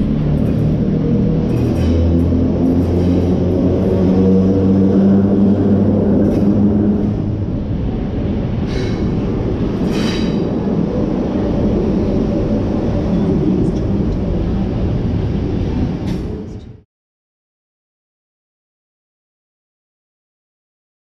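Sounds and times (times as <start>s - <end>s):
electric train rumbling past: 0.0s - 16.8s.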